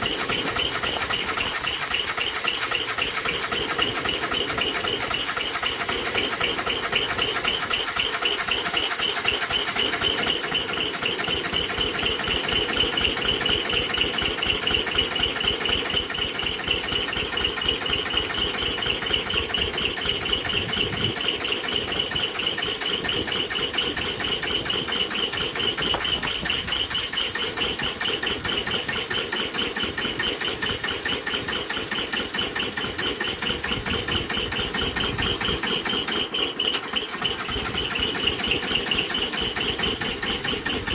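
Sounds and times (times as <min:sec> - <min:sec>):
diesel engine turning over: 0:00.0 - 0:40.9.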